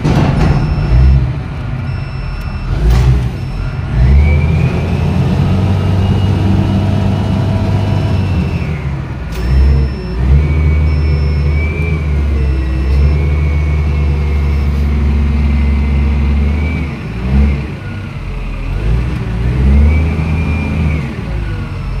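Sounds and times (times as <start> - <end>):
heavy machine engine revving: 0.0 - 22.0.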